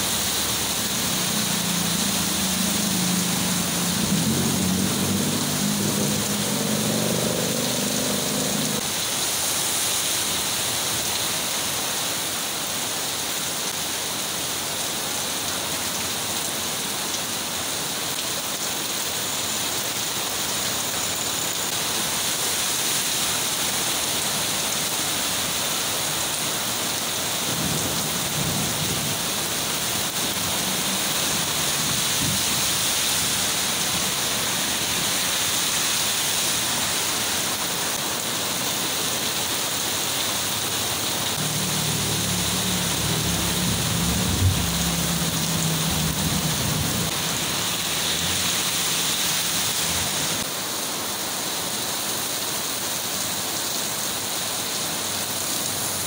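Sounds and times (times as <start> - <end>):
vehicle driving through water: 0.0 - 11.5, 15.0 - 50.7
heavy rain falling: 0.0 - 56.0.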